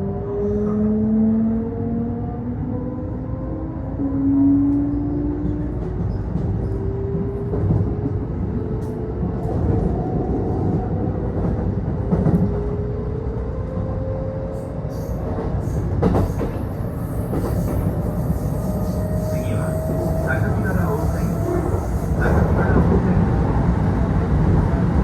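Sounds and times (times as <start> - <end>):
train rumble: 3.1 - 25.0.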